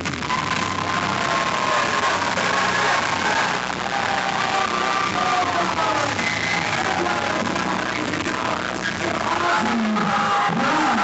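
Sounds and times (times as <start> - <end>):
crowd din: 0.0 - 11.0
live stage music: 0.0 - 11.0.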